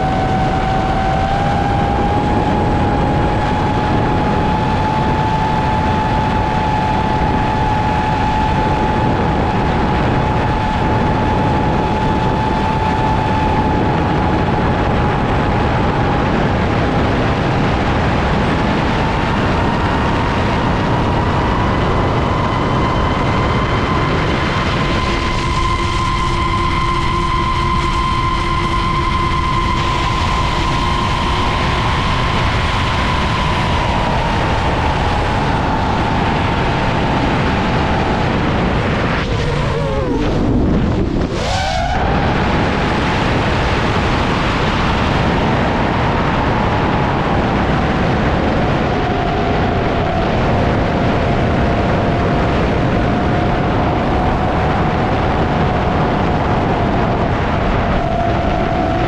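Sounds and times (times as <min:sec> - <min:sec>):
drone motors whining: 0:00.0 - 0:59.0
rush of prop wash and wind: 0:00.0 - 0:59.0.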